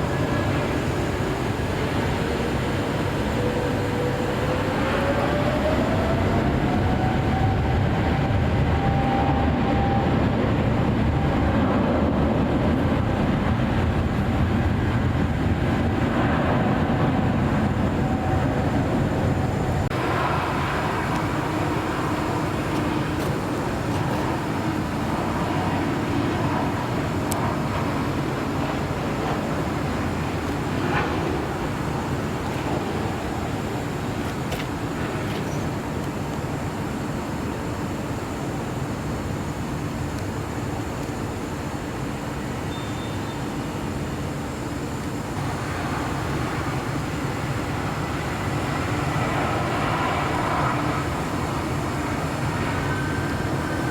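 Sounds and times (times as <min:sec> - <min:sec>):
jet airliner engine rumble: 0:00.0 - 0:53.9.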